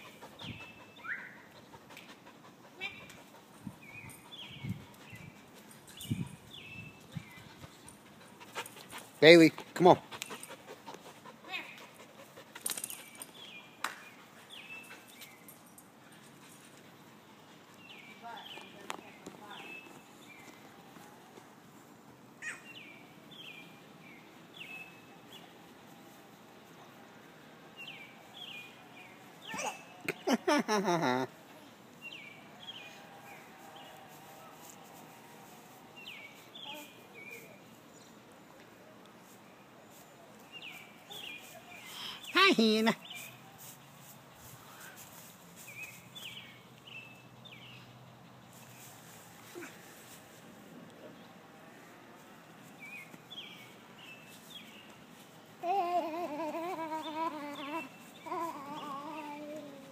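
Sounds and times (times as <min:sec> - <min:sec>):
low outdoor background: 0:00.0 - 0:59.9.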